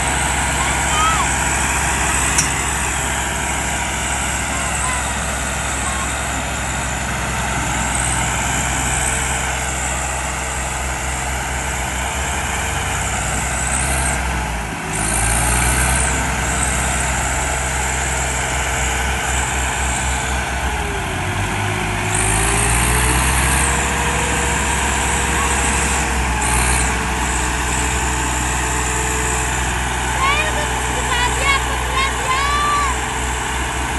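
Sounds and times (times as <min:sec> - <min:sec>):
tractor engines straining: 0:00.0 - 0:33.9.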